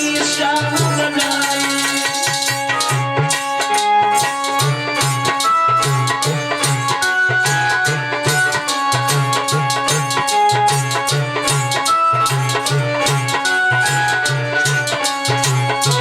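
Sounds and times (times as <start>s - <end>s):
hand drum rhythm: 0.0s - 16.0s
sustained melody of held notes: 0.0s - 16.0s.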